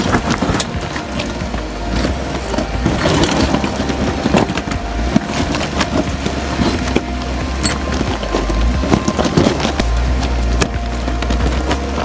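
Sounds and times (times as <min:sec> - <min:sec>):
jeep engine running: 0:00.0 - 0:12.0
stones crunching under tyres: 0:00.0 - 0:12.0.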